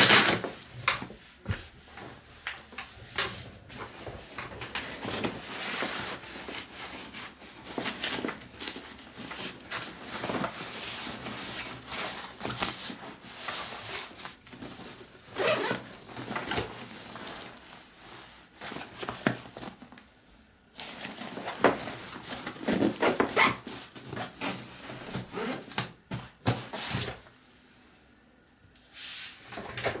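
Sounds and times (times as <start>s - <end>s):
fabric rustling and rubbing: 0.0s - 20.0s, 20.8s - 25.8s.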